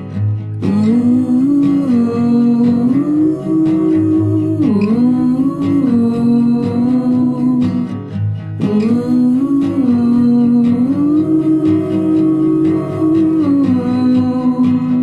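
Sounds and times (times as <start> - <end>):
plucked acoustic guitar: 0.0 - 15.0
person humming melody: 0.6 - 7.9, 8.6 - 15.0.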